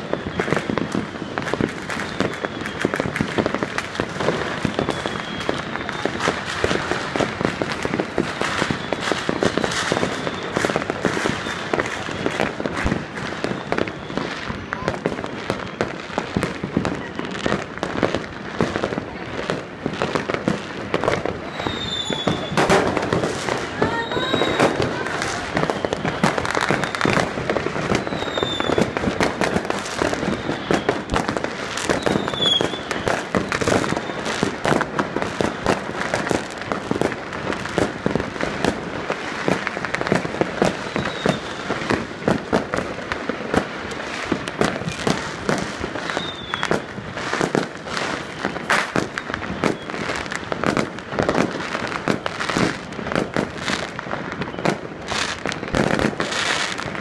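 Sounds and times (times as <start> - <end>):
firework whistles: 0.0 - 57.0
fireworks and firecrackers banging: 0.0 - 57.0.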